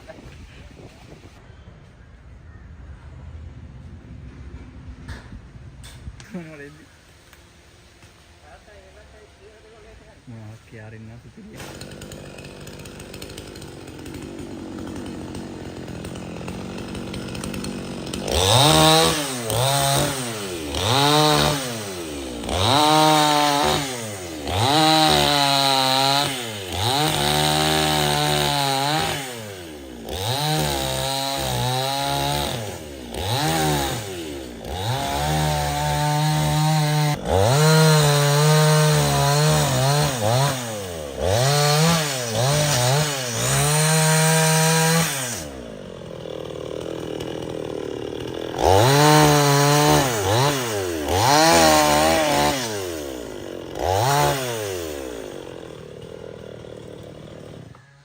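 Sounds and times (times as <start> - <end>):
chainsaw revving: 11.5 - 58.0.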